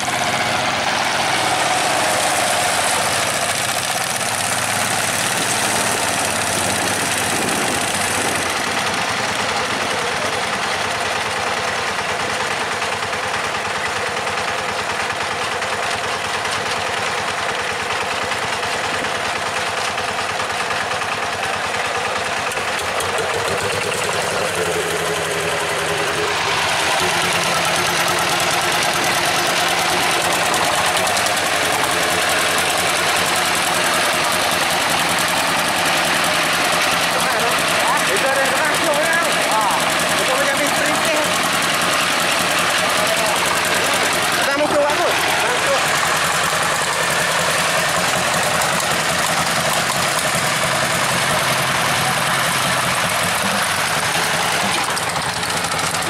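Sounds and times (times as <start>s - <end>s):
diesel engines knocking: 0.0s - 56.0s
nearer engine steady beat: 0.0s - 56.0s.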